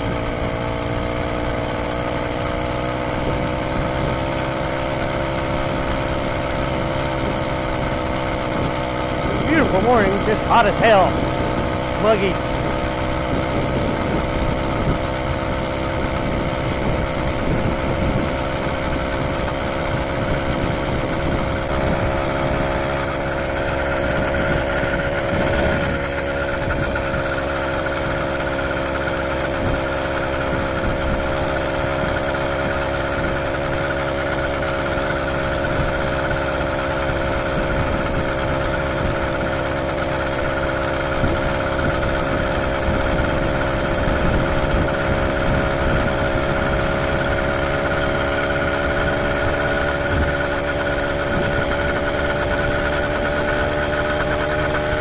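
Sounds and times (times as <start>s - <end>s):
two-stroke engine running: 0.0s - 55.0s.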